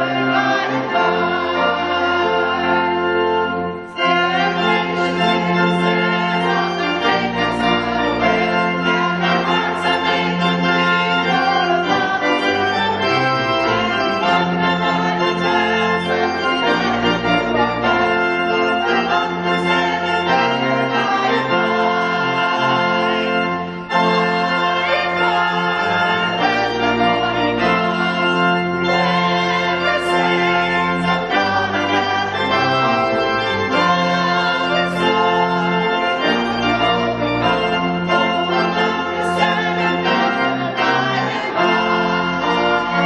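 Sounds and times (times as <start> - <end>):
church organ playing chords: 0.0 - 43.0.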